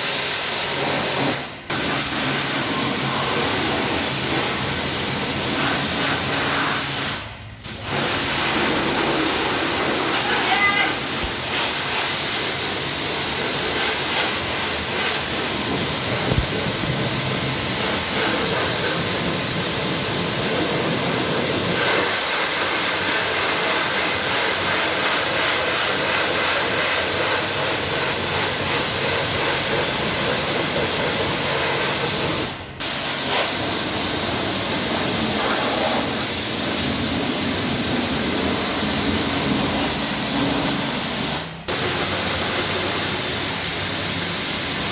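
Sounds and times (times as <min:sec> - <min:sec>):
pressure washer spraying water: 0:00.0 - 0:44.9.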